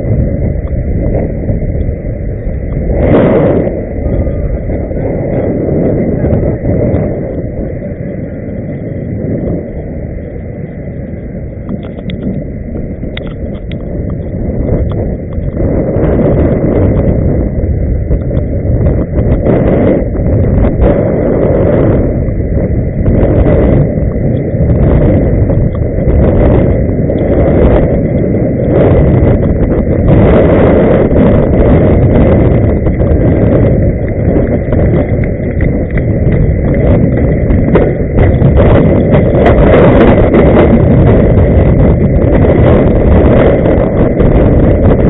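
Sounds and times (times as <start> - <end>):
skate wheels rolling on road: 0.0 - 45.0
wind buffeting microphone: 0.0 - 45.0.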